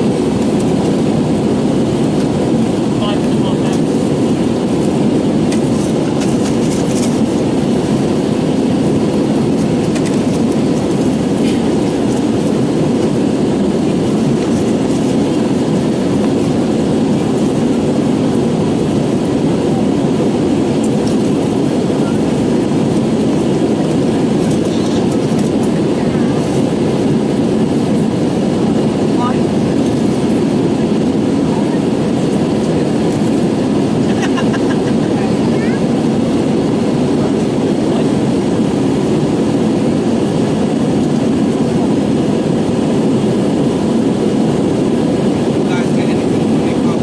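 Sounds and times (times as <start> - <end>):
airplane cabin engine roar: 0.0 - 47.0.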